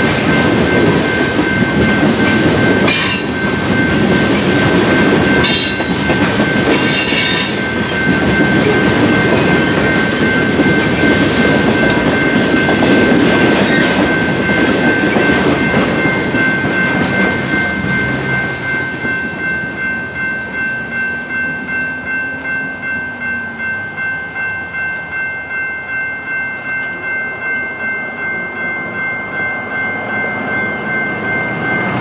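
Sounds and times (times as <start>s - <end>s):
railroad crossing bell ringing: 0.0s - 32.0s.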